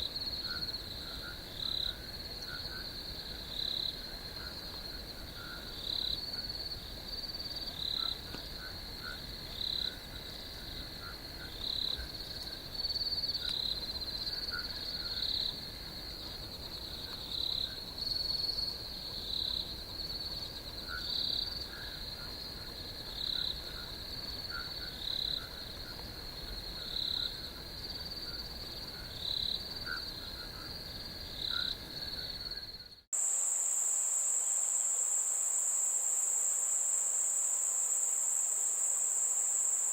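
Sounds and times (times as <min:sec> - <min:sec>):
cricket trill: 0:00.0 - 0:39.9
insect chorus trilling: 0:00.0 - 0:39.9.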